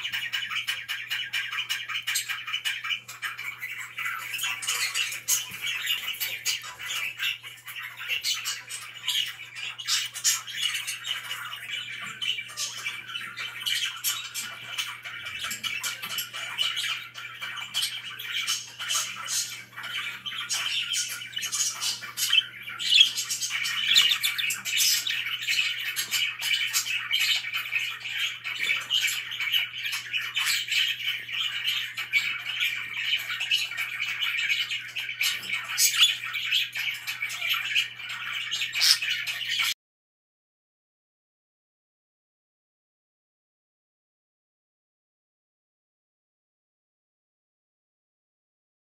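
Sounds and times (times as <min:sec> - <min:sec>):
budgerigars chirping: 0:00.0 - 0:39.8.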